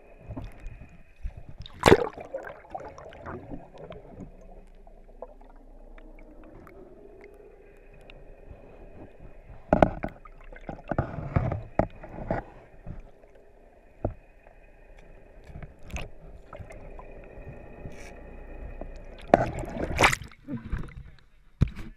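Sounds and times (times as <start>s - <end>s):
rush of water: 0.0s - 14.2s, 15.0s - 21.1s
faint underwater hum: 0.0s - 21.9s.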